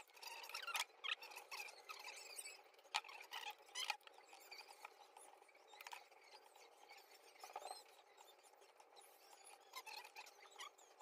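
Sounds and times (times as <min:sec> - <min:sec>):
faint high squeaky chirps: 0:00.0 - 0:11.0.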